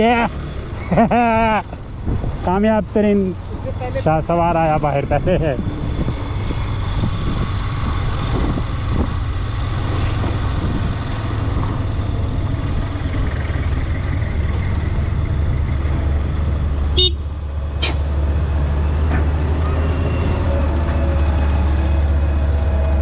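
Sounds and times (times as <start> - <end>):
deeper engine rumble: 0.0 - 23.0.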